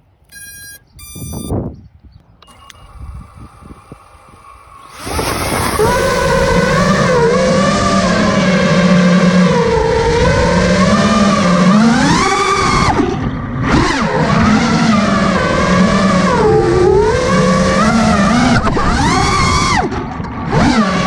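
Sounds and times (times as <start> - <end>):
drone motors whining: 2.3 - 21.0.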